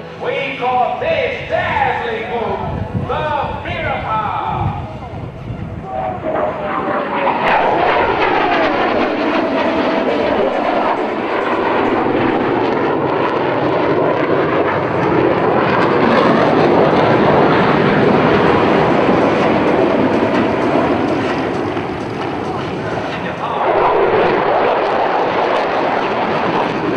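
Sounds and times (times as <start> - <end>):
jet engine whine: 0.0 - 26.9
jet engines roaring: 0.0 - 26.9.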